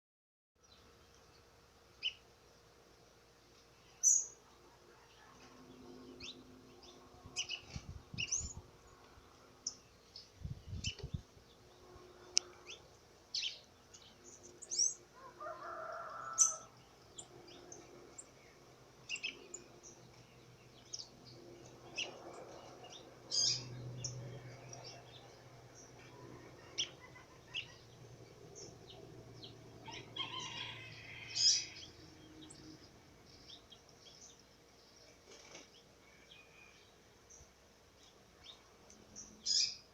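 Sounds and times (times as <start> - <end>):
birds chirping: 3.8 - 39.9.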